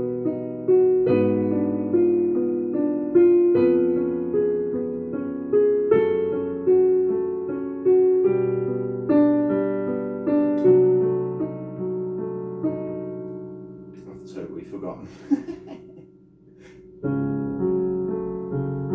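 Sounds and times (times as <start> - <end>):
slow piano melody: 0.0 - 18.9.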